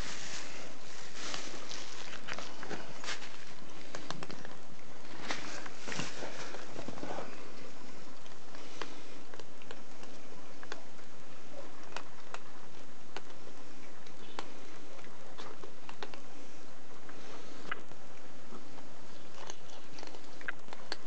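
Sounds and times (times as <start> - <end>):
steady hiss: 0.0 - 19.1
cats chewing and licking: 0.0 - 21.0.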